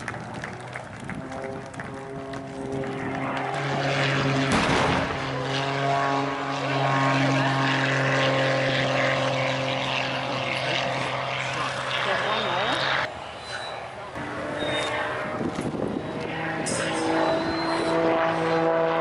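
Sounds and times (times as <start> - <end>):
propeller aircraft droning: 0.0 - 19.0.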